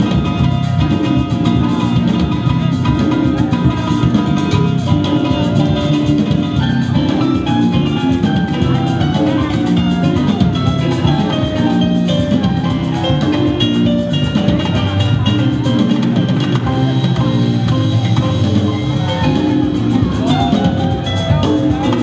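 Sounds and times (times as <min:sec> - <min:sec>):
drums and percussion: 0:00.0 - 0:22.0
electronic keyboard: 0:00.0 - 0:22.0.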